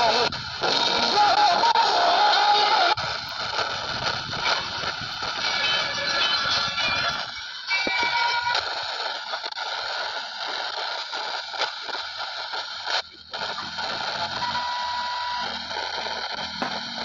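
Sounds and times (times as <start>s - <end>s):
radio crackles: 0.0s - 17.0s
radio static hiss: 0.0s - 17.0s
steady radio whistle: 0.0s - 17.0s.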